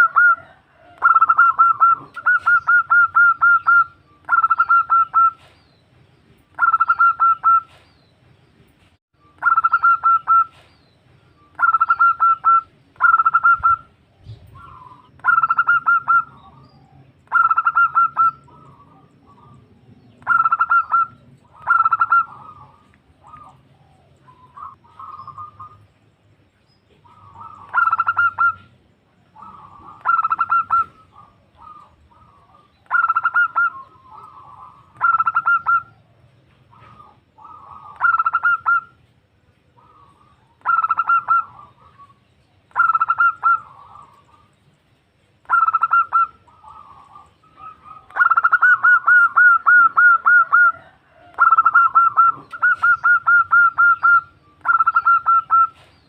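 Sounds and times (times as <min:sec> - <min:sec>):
dove cooing: 0:00.0 - 0:05.6, 0:06.5 - 0:07.8, 0:09.4 - 0:10.7, 0:11.5 - 0:25.9, 0:26.9 - 0:39.0, 0:39.7 - 0:44.5, 0:45.4 - 0:56.0.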